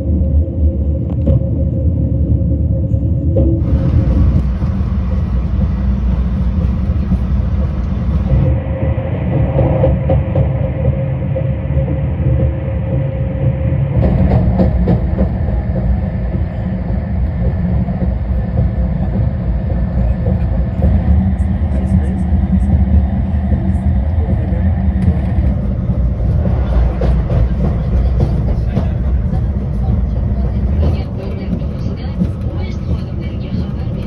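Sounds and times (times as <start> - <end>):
high-speed train running: 0.0 - 34.0.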